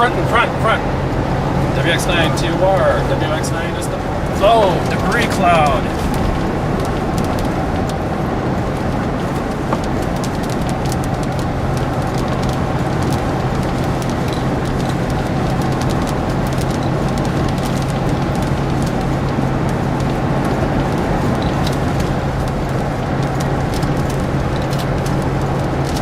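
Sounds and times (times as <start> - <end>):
car road and engine noise: 0.0 - 26.0
low steady hum: 0.0 - 26.0.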